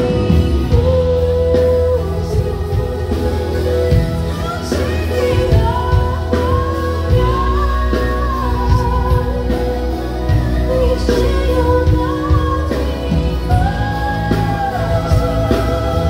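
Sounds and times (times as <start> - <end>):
pop band playing: 0.0 - 16.0
woman singing: 0.0 - 16.0.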